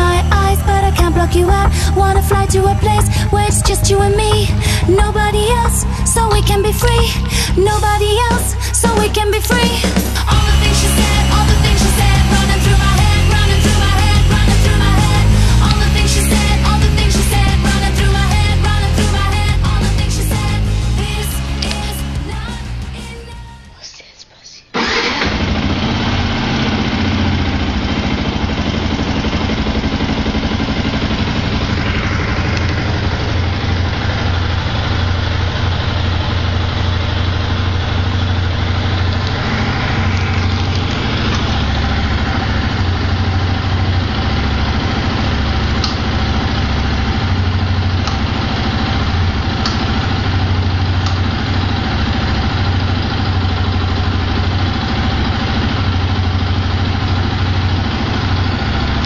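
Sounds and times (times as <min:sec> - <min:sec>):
motorcycle engine idling: 0:00.0 - 0:23.4, 0:24.8 - 0:59.0.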